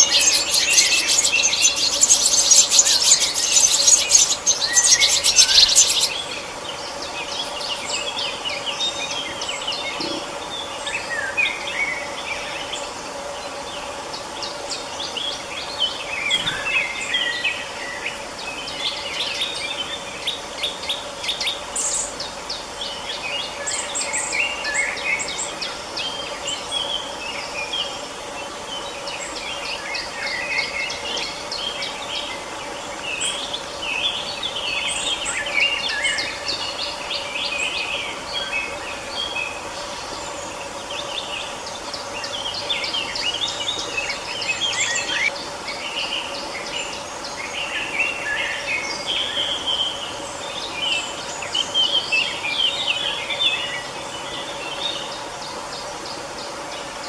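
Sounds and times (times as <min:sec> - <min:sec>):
birds singing and calling: 0:00.0 - 0:57.0.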